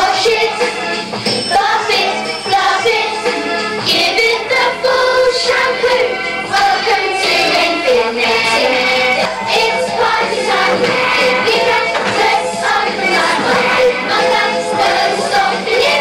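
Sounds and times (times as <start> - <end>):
children singing: 0.0 - 16.0
instrumental accompaniment: 0.0 - 16.0.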